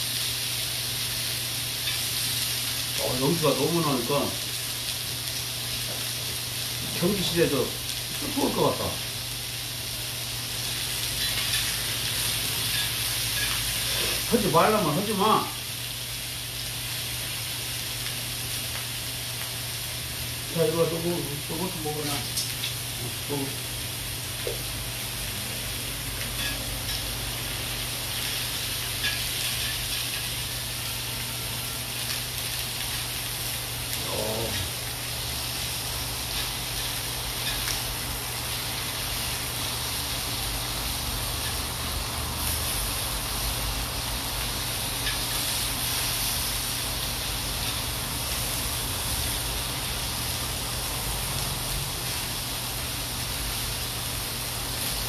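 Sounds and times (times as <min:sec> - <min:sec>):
meat sizzling on a grill pan: 0:00.0 - 0:55.0.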